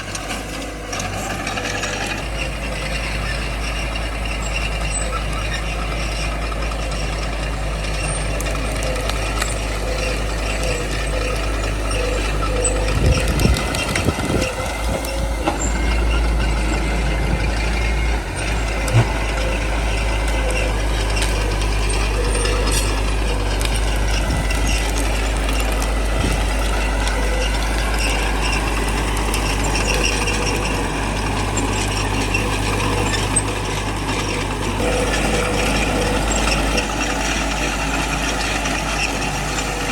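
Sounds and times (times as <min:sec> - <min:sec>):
bulldozer diesel engine running: 0:00.0 - 0:39.9
mechanical clanking: 0:00.0 - 0:39.9.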